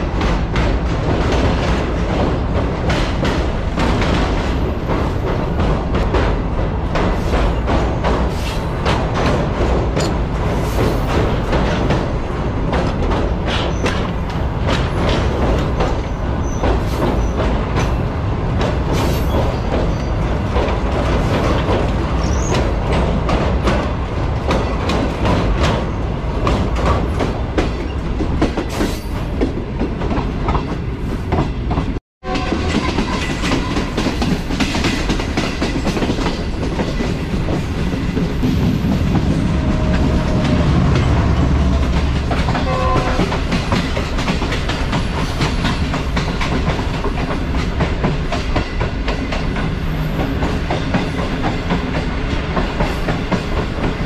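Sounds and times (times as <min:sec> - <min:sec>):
train rumble: 0:00.0 - 0:54.0
train wheels clicking over joints: 0:00.0 - 0:54.0.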